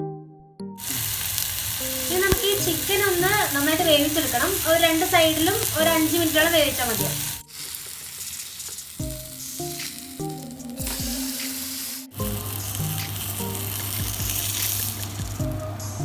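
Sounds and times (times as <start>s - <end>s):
background music: 0.0s - 16.0s
chicken sizzling in oil: 0.8s - 16.0s.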